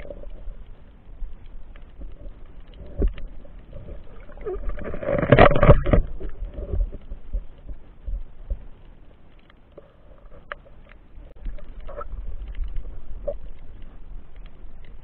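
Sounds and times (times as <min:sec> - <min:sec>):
underwater clicks and crackles: 0:00.0 - 0:15.0
underwater rumble: 0:00.0 - 0:15.0.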